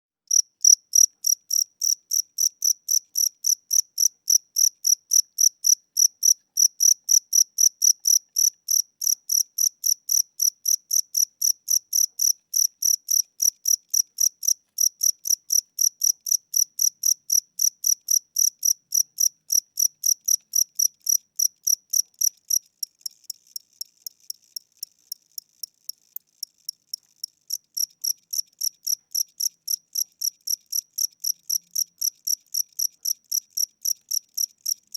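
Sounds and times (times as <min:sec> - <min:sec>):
cricket chirping: 0:00.3 - 0:34.9.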